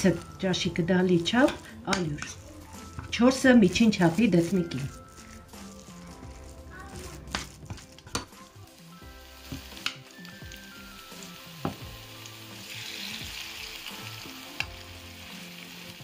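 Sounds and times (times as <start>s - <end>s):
batter sizzling in hot oil: 0.0s - 16.0s
faint background music: 0.0s - 16.0s.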